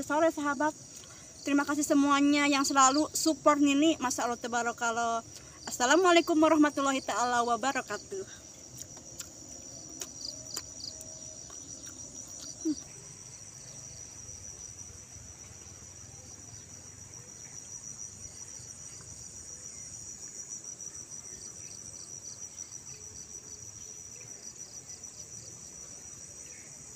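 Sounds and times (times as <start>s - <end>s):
chorus of crickets and insects: 0.0s - 26.9s.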